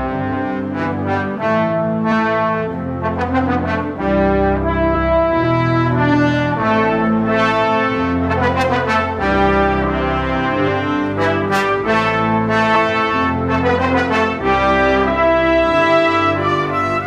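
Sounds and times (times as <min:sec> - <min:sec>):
held chords over deep bass: 0:00.0 - 0:17.0.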